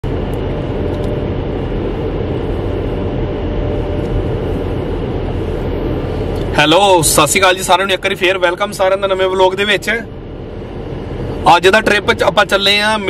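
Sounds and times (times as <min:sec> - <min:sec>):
car interior rumble: 0:00.0 - 0:13.0
faint steady hum: 0:00.0 - 0:13.0.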